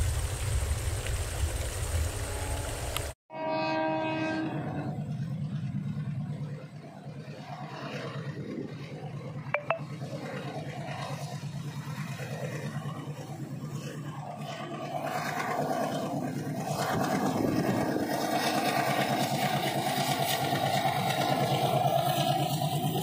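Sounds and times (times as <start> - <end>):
diesel locomotive engine throbbing: 0.0 - 23.0.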